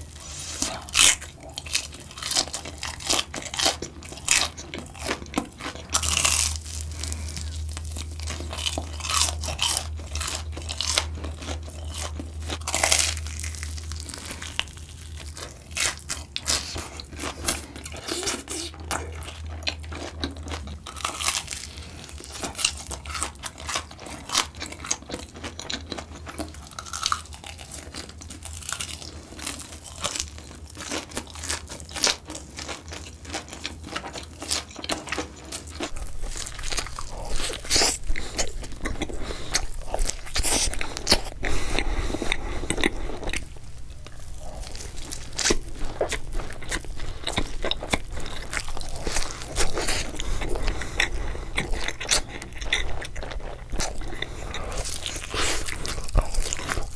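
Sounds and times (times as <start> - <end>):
crunching and chewing fried food: 0.0 - 56.9.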